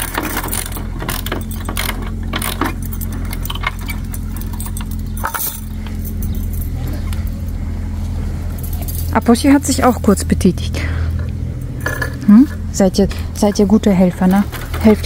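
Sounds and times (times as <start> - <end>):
metal chain rattling: 0.0 - 7.6, 8.4 - 10.2, 11.6 - 12.6, 13.3 - 15.0
steady low hum: 0.0 - 15.0.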